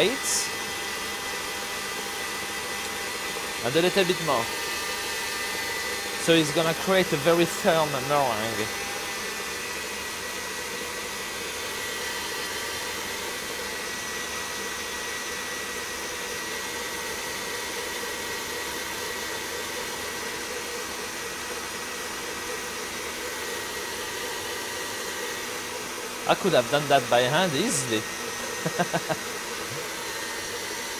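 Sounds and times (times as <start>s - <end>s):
stand mixer whirring: 0.0s - 30.9s.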